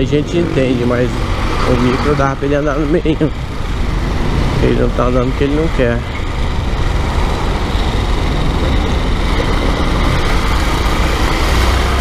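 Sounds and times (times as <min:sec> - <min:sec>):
low rumble of vehicles: 0:00.0 - 0:12.0
road and traffic noise: 0:00.0 - 0:12.0.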